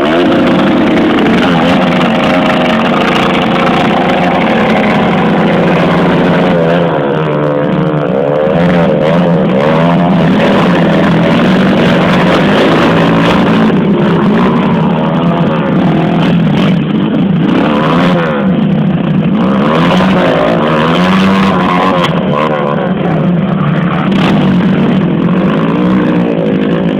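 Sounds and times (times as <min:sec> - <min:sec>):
motocross engines revving: 0:00.0 - 0:26.9.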